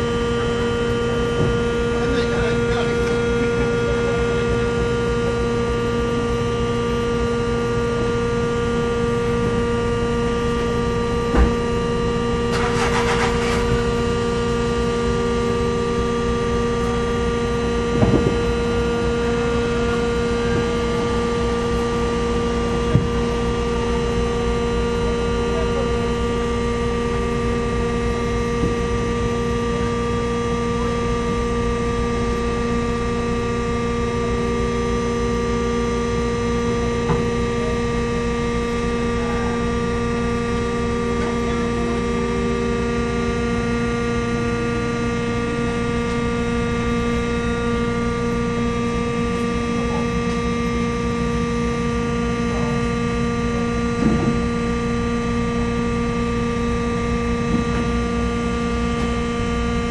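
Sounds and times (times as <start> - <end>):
machinery hum tones: 0.0 - 59.9
ship engine low rumble: 0.0 - 59.9.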